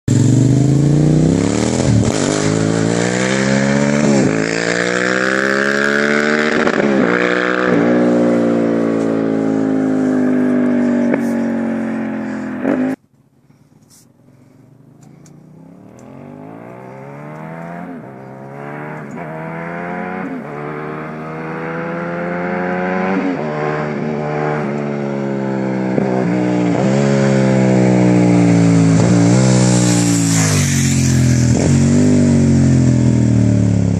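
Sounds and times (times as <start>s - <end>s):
motorcycle engine revving: 0.1s - 13.0s, 14.7s - 33.9s.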